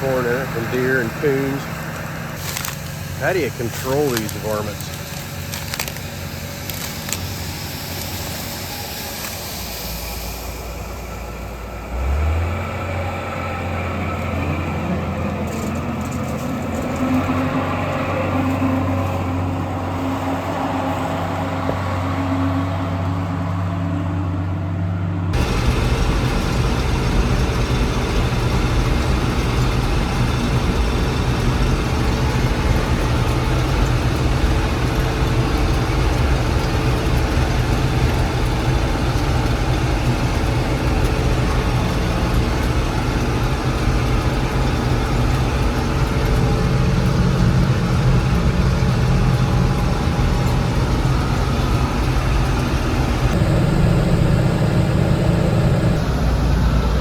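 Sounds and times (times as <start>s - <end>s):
combine engine running: 0.0s - 23.6s, 25.3s - 57.0s.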